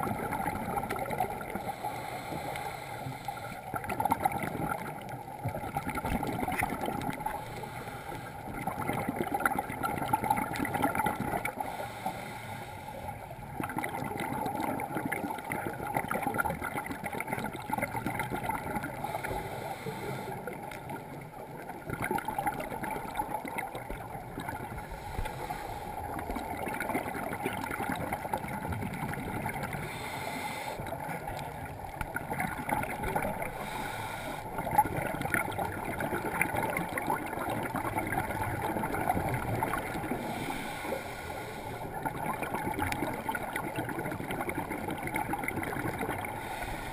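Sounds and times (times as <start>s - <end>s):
underwater bubbles rumbling: 0.0s - 1.9s, 3.7s - 7.8s, 8.4s - 11.8s, 13.4s - 30.1s, 30.8s - 46.9s.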